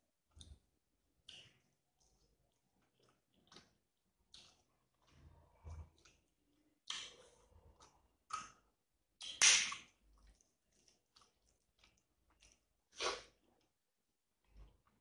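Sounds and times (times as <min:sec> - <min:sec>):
person chewing wetly: 0:00.3 - 0:13.8.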